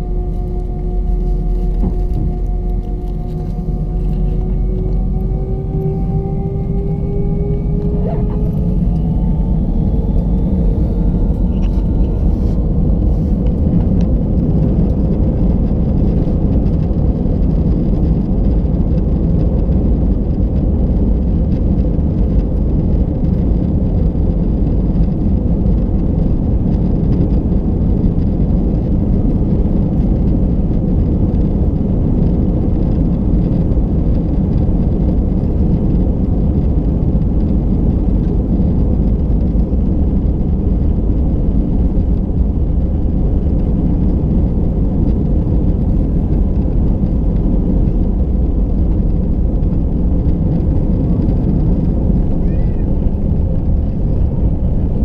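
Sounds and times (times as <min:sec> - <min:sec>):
faint steady hum: 0:00.0 - 0:55.0
jet engines low rumble in cabin: 0:00.0 - 0:55.0.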